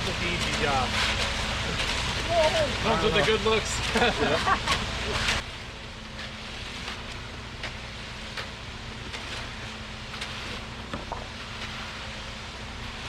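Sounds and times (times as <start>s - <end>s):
tools scraping wet concrete: 0.0s - 5.4s, 6.2s - 12.1s
engine running steadily: 0.0s - 13.0s.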